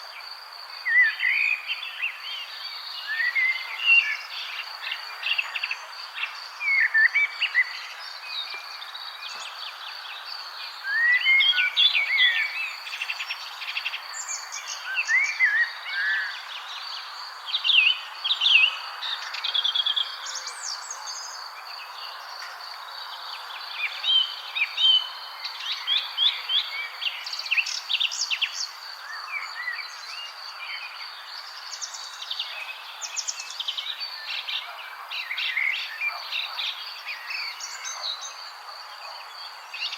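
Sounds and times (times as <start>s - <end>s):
constant background hiss: 0.0s - 39.9s
songbirds chirping: 0.0s - 39.9s.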